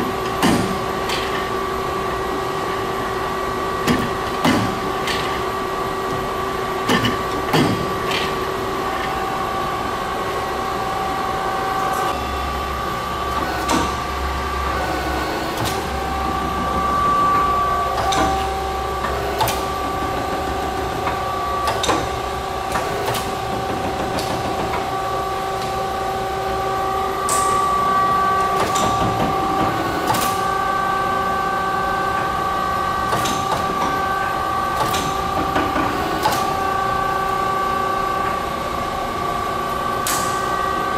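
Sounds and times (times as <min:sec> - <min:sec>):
lathe humming: 0:00.0 - 0:39.9.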